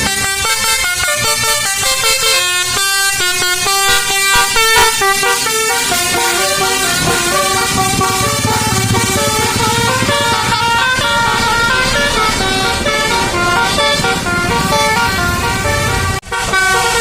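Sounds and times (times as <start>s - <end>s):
musical bus air horn: 0.0s - 17.0s.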